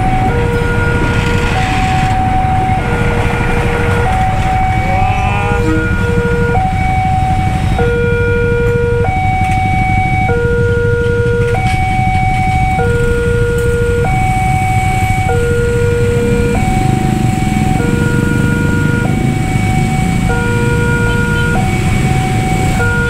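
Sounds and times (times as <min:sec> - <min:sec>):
two-tone electronic alarm: 0:00.0 - 0:23.0.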